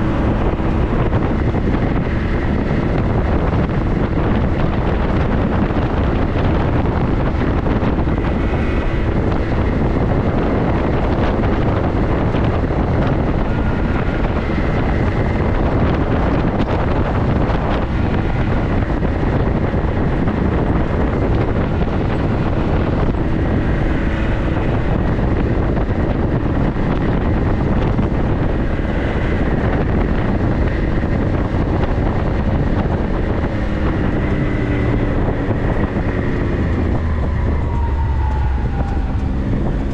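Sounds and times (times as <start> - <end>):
vehicle engine and road noise: 0.0 - 39.9
wind buffeting microphone: 0.0 - 39.9.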